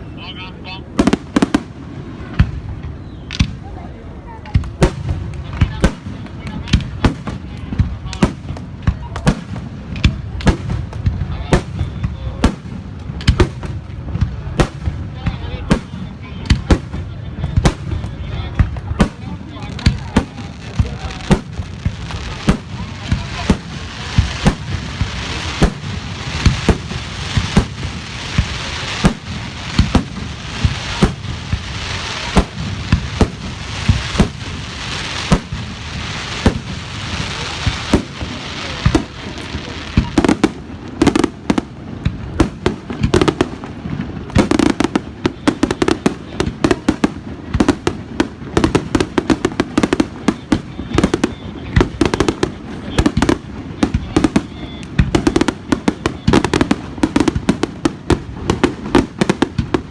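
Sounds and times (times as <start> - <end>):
fireworks bangs: 0.0 - 59.9
fireworks hissing crackle: 0.0 - 59.9.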